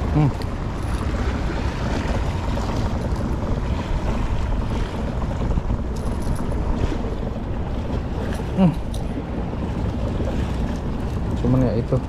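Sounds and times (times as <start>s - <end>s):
sea wash: 0.0s - 12.0s
wind buffeting microphone: 0.0s - 12.0s.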